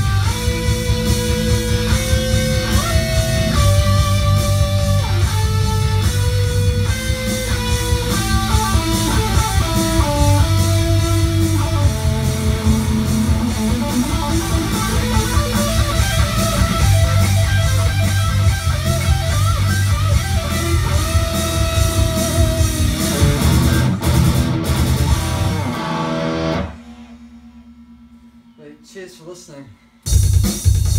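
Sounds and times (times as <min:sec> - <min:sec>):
electric guitar lead melody: 0:00.0 - 0:26.8
low rhythmic backing: 0:00.0 - 0:30.9.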